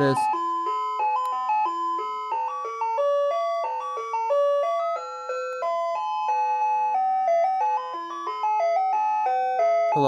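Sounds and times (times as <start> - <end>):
ice cream truck chime jingle: 0.0 - 10.0.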